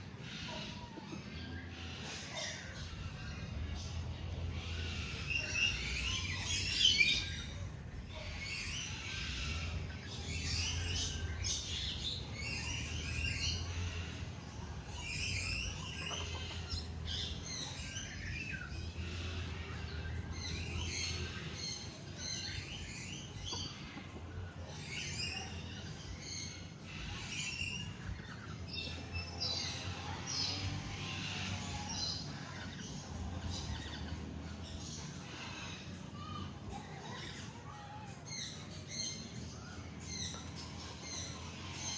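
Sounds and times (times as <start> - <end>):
birds chirping and singing: 0.0 - 41.9
low steady rumble: 0.0 - 41.9.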